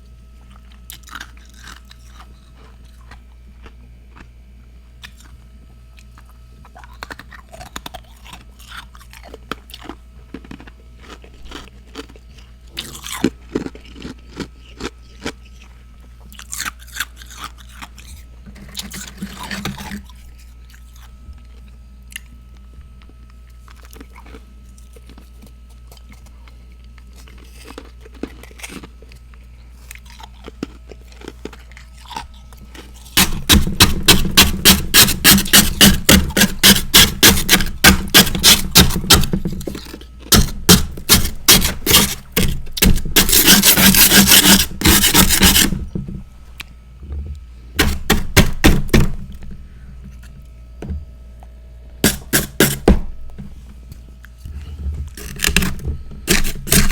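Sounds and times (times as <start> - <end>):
chewing crunchy frost: 0.0 - 47.5.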